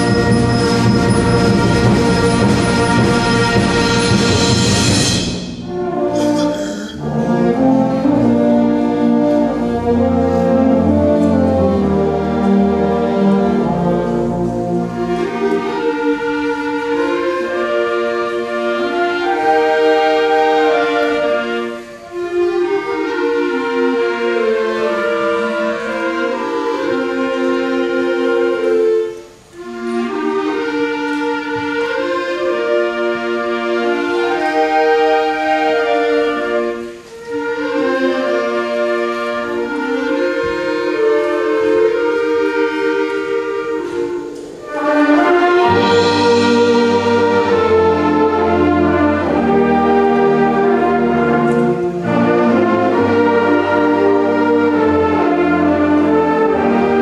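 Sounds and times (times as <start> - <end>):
concert band playing: 0.0 - 57.0
woodwinds and flutes melody: 0.0 - 57.0.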